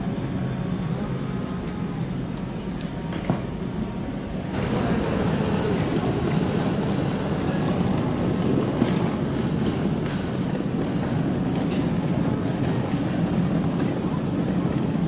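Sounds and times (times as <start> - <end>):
train rumbling at speed: 0.0 - 15.0.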